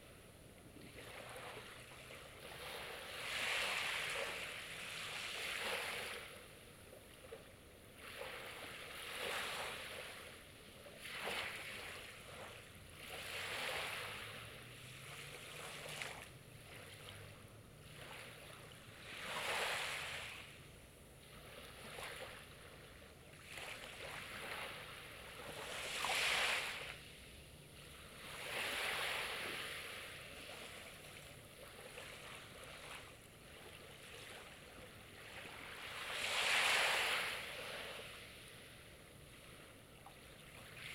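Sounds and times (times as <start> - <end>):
sea waves breaking on shore: 0.7 - 40.9.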